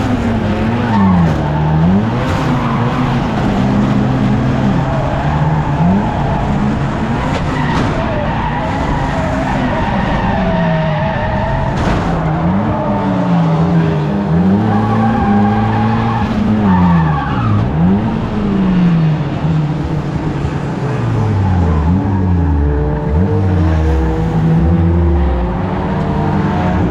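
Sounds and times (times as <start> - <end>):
racing car engines revving: 0.0 - 26.9.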